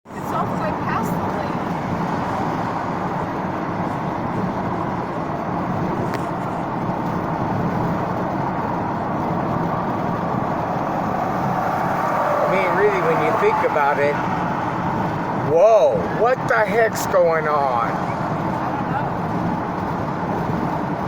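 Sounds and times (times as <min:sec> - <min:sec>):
car road noise: 0:00.0 - 0:21.0.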